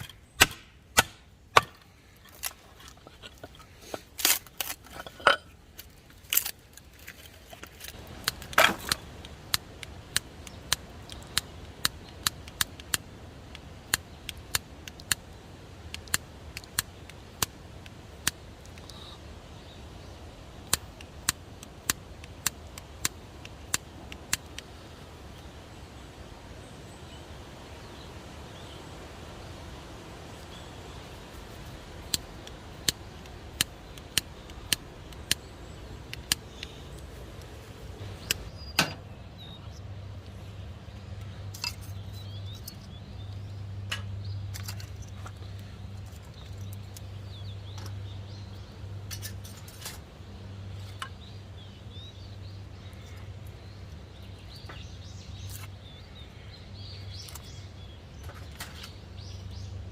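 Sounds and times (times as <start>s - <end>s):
steady low rumble: 0.6s - 58.3s.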